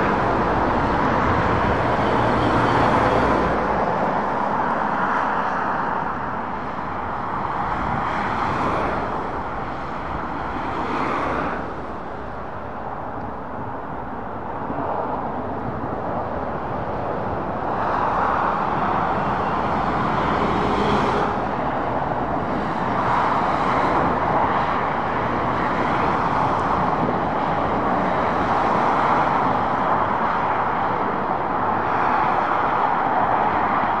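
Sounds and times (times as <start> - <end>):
road traffic roar: 0.0 - 34.0.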